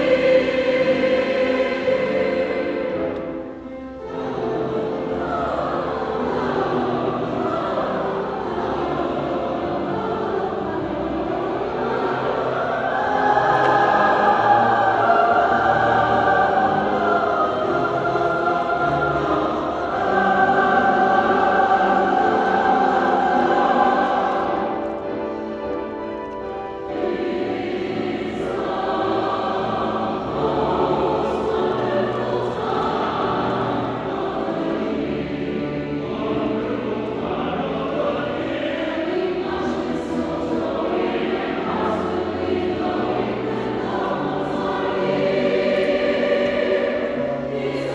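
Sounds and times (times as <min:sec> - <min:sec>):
choir singing harmonised lines: 0:00.0 - 0:47.9.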